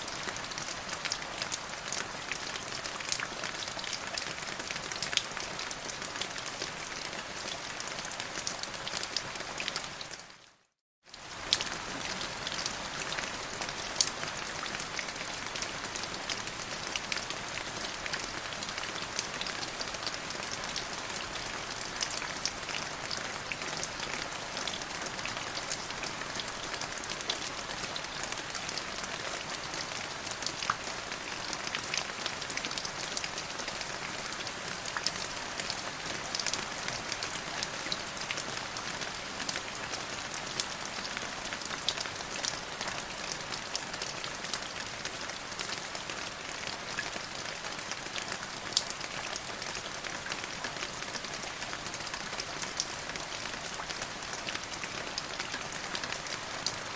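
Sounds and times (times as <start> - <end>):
steady rain with drop ticks: 0.0 - 56.9.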